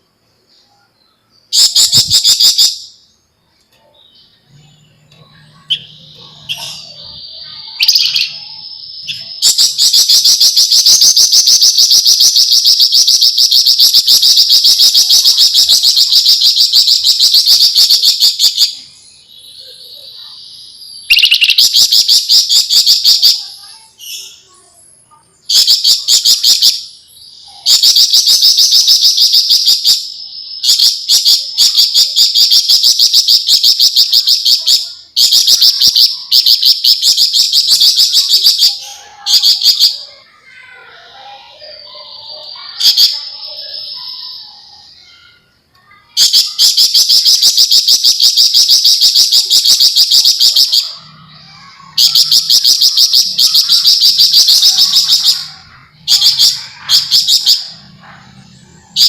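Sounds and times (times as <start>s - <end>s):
bird singing fast rattling trills: 0.0s - 3.0s, 3.8s - 24.6s, 25.5s - 57.9s.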